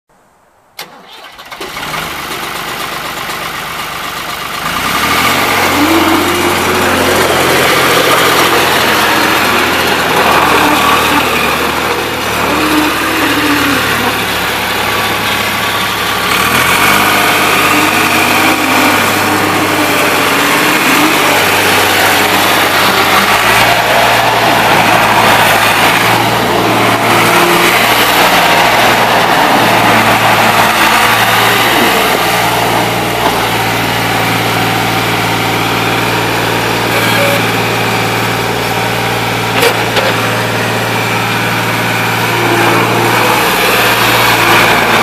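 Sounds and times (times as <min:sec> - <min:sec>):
skid steer engine: 0:00.8 - 0:45.0
driving across gravel: 0:01.8 - 0:45.0.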